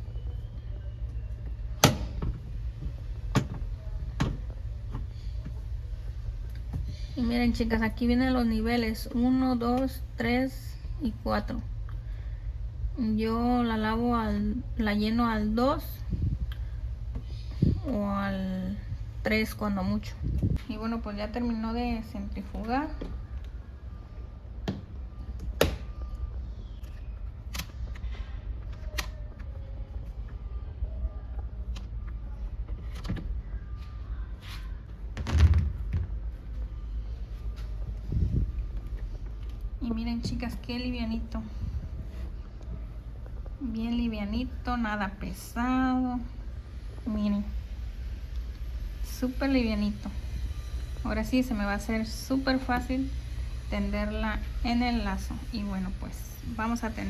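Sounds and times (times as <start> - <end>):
washing machine spin tub hum: 0.0 - 57.0.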